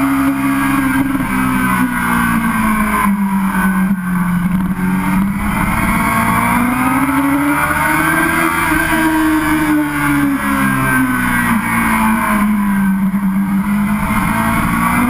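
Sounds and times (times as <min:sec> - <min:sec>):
motorcycle engine at road speed: 0:00.0 - 0:15.0.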